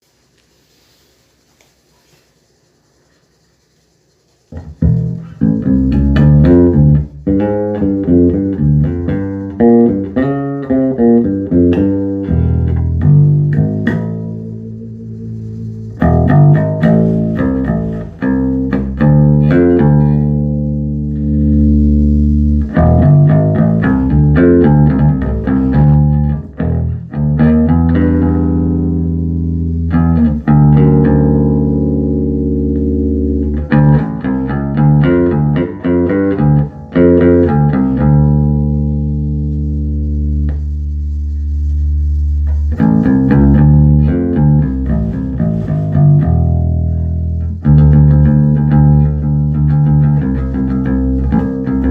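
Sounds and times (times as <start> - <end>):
electric bass guitar plucked notes: 4.5 - 51.9.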